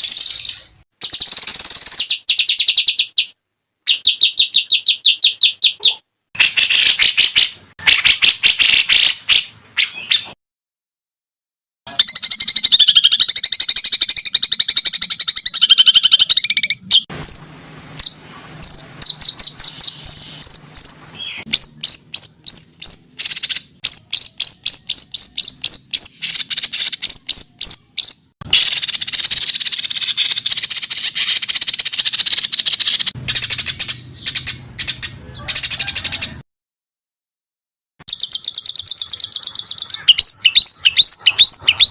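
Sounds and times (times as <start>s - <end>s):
buzzy bird trill: 0.0s - 10.4s, 11.9s - 36.4s, 38.0s - 41.9s
sharp high bird chirps: 0.0s - 10.4s, 11.9s - 36.4s, 38.0s - 41.9s.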